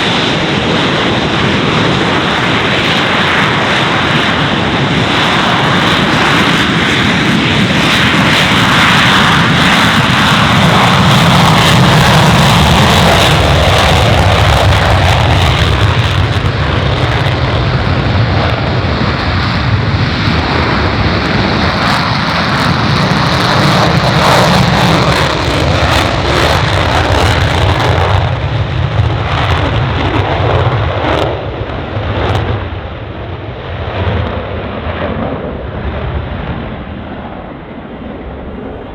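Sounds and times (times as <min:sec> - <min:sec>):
jet engines rumbling and crackling: 0:00.0 - 0:38.9.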